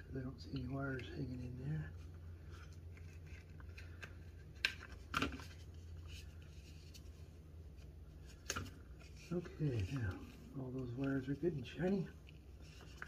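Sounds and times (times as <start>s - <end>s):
cable handling rustles and ticks: 0.0s - 13.0s
steady low hum: 0.0s - 13.0s.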